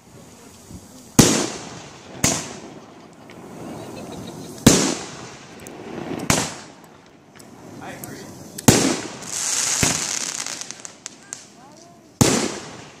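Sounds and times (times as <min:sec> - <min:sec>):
fireworks bangs with echo: 0:00.8 - 0:13.0.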